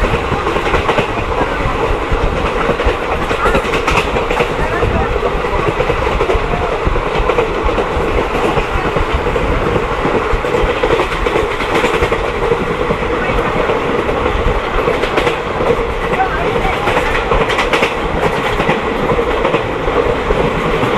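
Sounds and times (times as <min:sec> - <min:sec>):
train carriage rumbling: 0:00.0 - 0:20.9.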